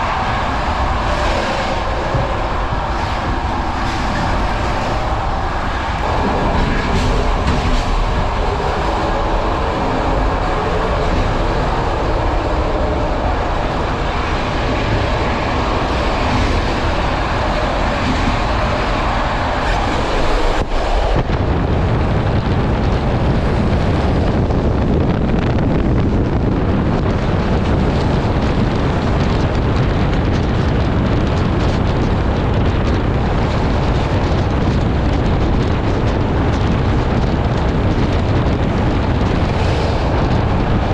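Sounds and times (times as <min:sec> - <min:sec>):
heavy low rumble: 0:00.0 - 0:40.9
train wheels on rail: 0:00.0 - 0:40.9
wind buffeting microphone: 0:00.0 - 0:40.9.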